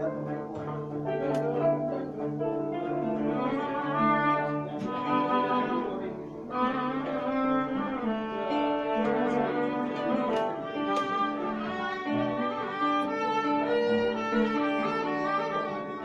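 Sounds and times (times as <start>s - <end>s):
bowed strings melody: 0.0s - 16.0s.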